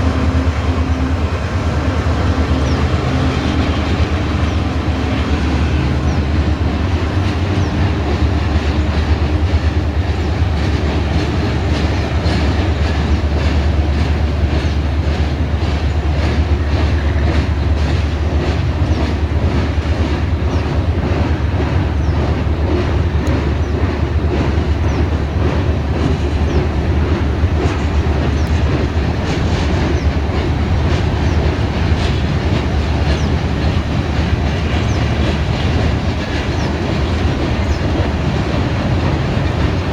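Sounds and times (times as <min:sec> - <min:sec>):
train rumble: 0:00.0 - 0:39.9
train wheels clickety-clack: 0:00.0 - 0:39.9.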